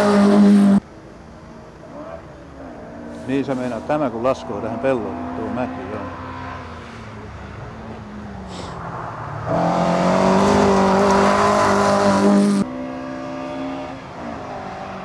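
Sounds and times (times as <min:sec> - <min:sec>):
rally car passing at high revs: 0:00.0 - 0:00.8, 0:02.7 - 0:15.0
distant car engine approaching: 0:00.0 - 0:15.0.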